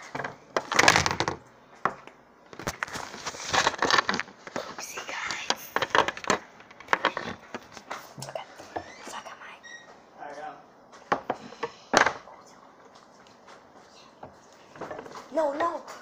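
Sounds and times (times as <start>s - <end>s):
crackling knocking and scraping: 0.0s - 9.2s, 10.8s - 16.0s.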